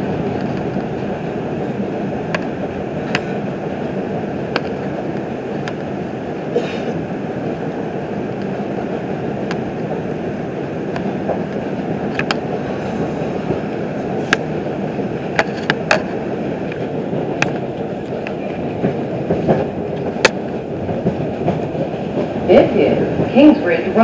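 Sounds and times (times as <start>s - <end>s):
sharp track clicks and clacks: 0.0s - 6.0s, 8.2s - 24.0s
rumble of train wheels on rail: 0.0s - 24.0s.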